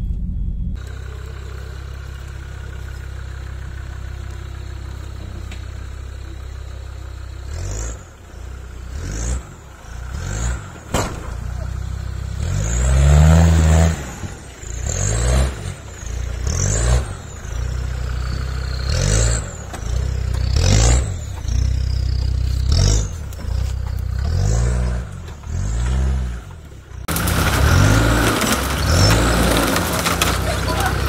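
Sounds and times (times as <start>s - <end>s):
diesel engine revving with whine: 0.0s - 31.0s
branches scraping vehicle body: 0.8s - 31.0s.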